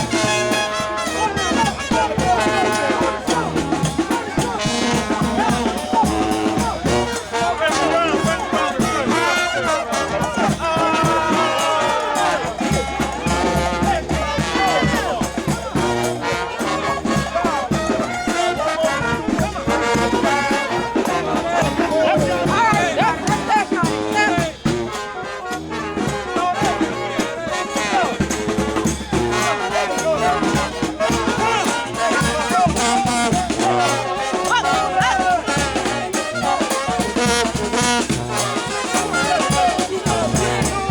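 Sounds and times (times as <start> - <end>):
steady drum beat: 0.0 - 40.9
trumpets and trombones melody: 0.0 - 40.9.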